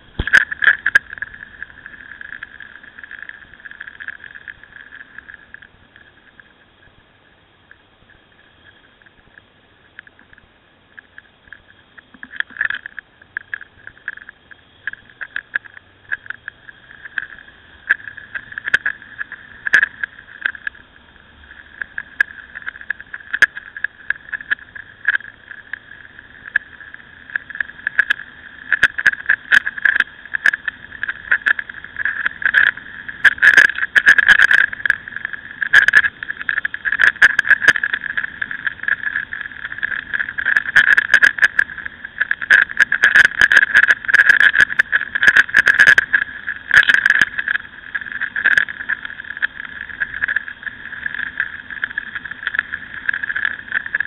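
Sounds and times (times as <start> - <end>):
sharp clicks and rattles: 0.0 - 7.0, 7.6 - 54.0
motorcycle engine drone: 0.0 - 54.0
wind noise: 0.0 - 54.0.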